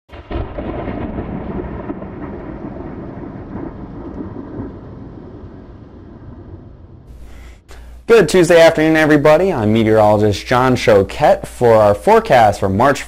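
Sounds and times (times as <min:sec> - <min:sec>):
thunder rolling: 0:00.1 - 0:13.0.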